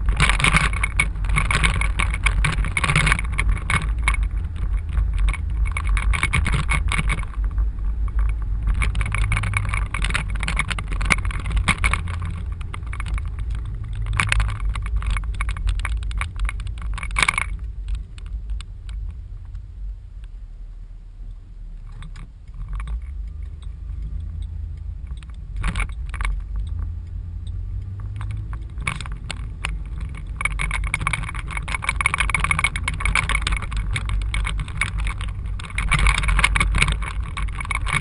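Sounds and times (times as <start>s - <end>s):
car road and engine rumble: 0.0s - 38.0s
crackling noise bursts: 0.0s - 38.0s.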